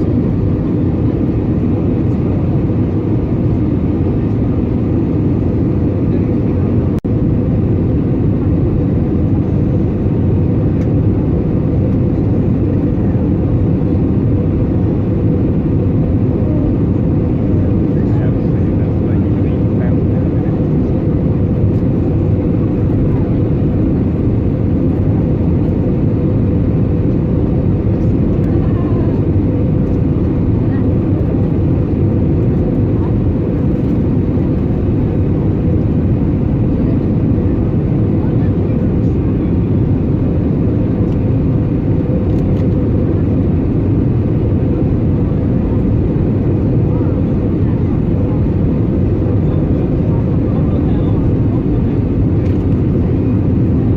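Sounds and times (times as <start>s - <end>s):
airliner cabin rumble: 0.0s - 53.9s.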